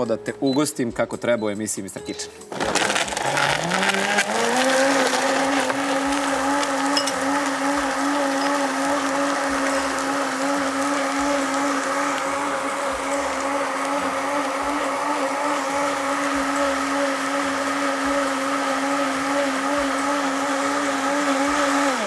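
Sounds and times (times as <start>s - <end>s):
blender motor hum: 2.5s - 22.0s.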